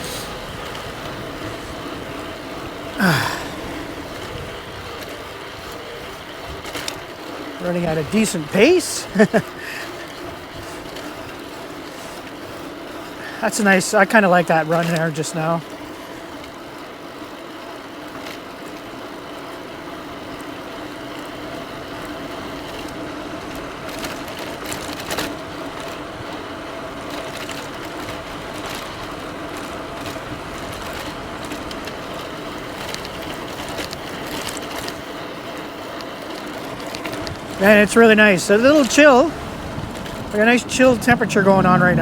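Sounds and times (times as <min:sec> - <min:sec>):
electric bike motor whining: 0:00.0 - 0:14.0, 0:14.6 - 0:42.0
tyres and wind rushing: 0:00.0 - 0:17.5, 0:20.1 - 0:42.0.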